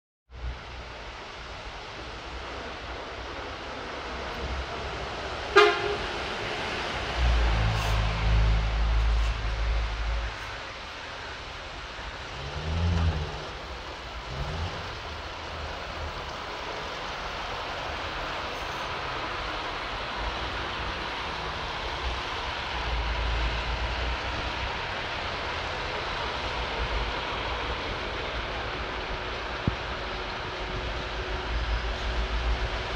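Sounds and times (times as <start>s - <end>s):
coach diesel engine: 0.4s - 32.9s
tyres hissing on wet road: 0.4s - 32.9s.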